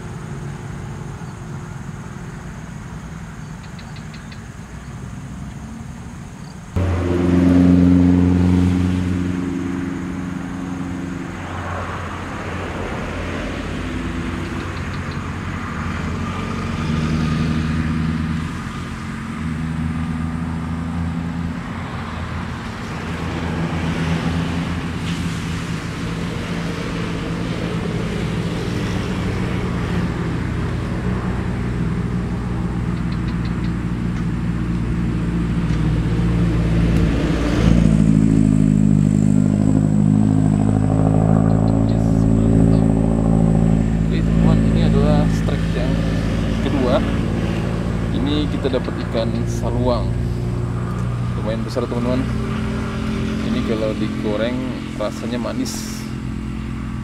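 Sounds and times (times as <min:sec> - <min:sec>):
vehicle engines humming: 0:00.0 - 0:57.0.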